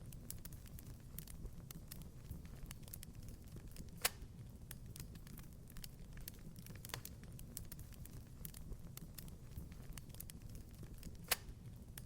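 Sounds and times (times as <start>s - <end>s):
fire crackling and popping: 0.0s - 12.0s
low rumble of flames: 0.0s - 12.0s.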